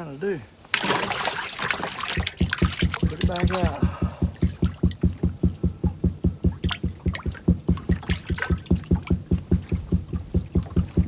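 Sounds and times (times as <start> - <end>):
boat motor knocking: 1.7 - 11.0.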